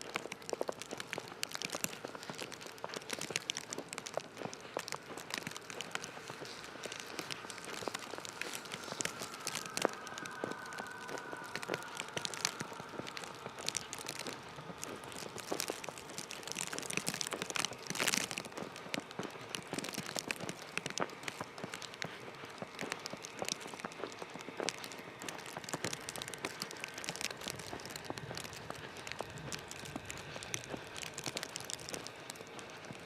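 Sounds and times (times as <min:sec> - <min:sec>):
footsteps crunching on snow: 0:00.0 - 0:33.0.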